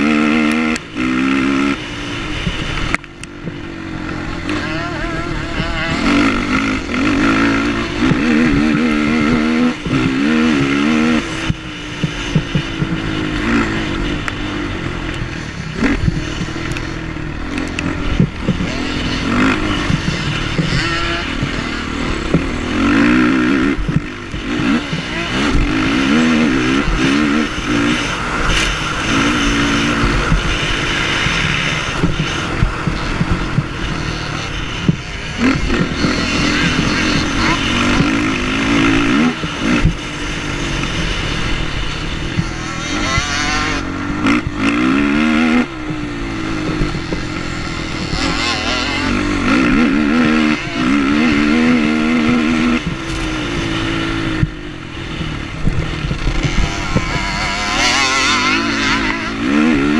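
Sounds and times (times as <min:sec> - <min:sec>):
quad engine accelerating hard: 0:00.0 - 0:59.9
track noise: 0:00.0 - 0:59.9.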